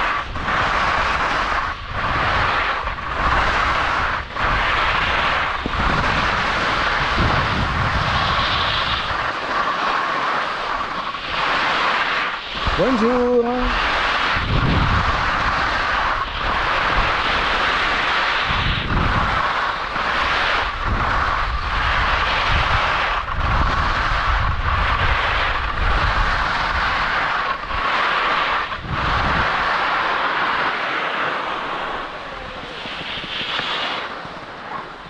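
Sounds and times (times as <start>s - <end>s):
skis scraping over snow: 0.0s - 35.0s
wind rushing over microphone: 0.0s - 35.0s.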